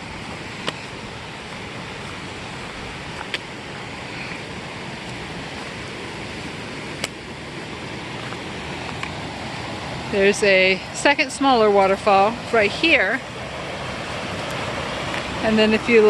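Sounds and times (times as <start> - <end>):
creek rushing: 0.0 - 16.0.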